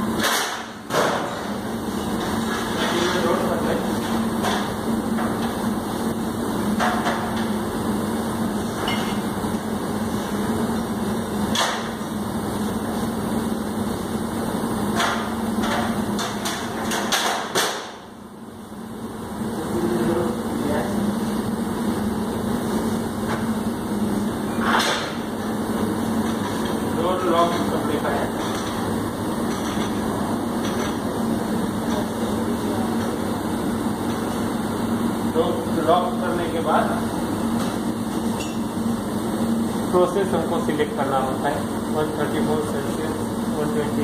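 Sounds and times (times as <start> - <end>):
steady machinery hum: 0.0 - 44.0.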